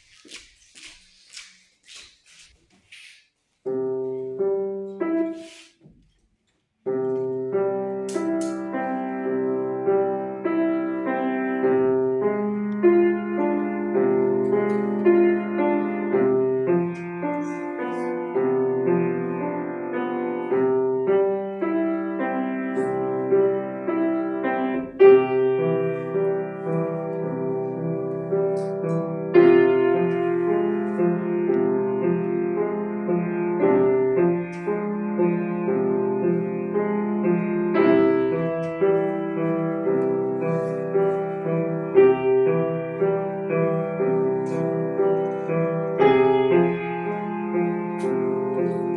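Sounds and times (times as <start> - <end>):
piano melody over chords: 6.9 - 48.9.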